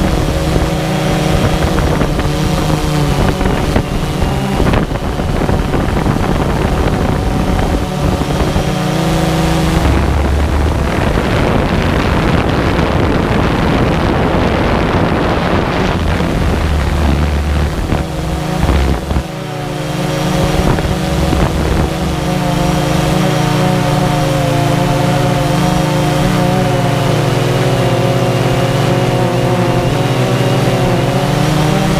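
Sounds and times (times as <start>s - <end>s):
drone propellers humming: 0.0s - 31.9s
wind buffeting microphone: 0.0s - 31.9s.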